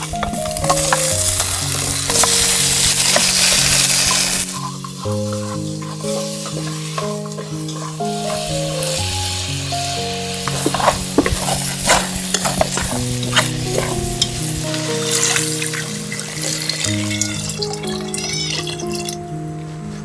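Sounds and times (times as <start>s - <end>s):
meat sizzling in a pot: 0.0s - 19.2s
slow gentle melody: 0.0s - 20.0s.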